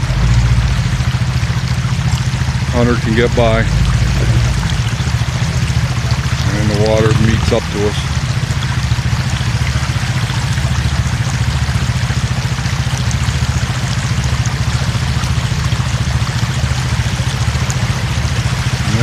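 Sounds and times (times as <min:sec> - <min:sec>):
vehicle engine idling: 0:00.0 - 0:19.0
water rushing and trickling: 0:00.0 - 0:19.0.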